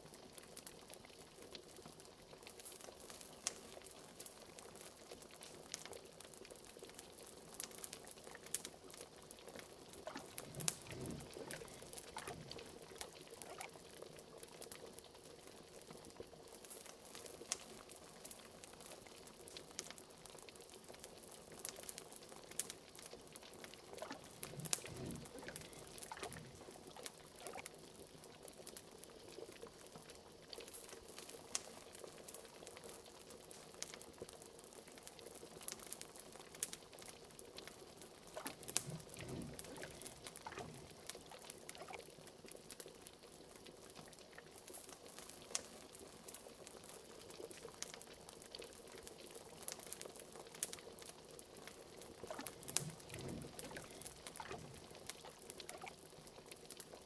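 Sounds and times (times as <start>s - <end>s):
pot of liquid bubbling: 0.0s - 57.0s
wood fire crackling and popping: 0.0s - 57.0s.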